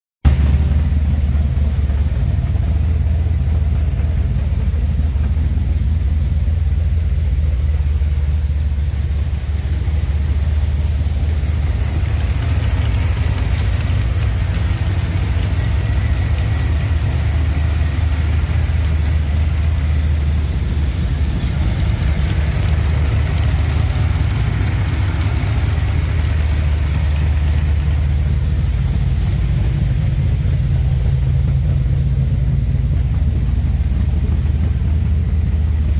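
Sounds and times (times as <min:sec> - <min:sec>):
car engine idling: 0:00.2 - 0:35.9.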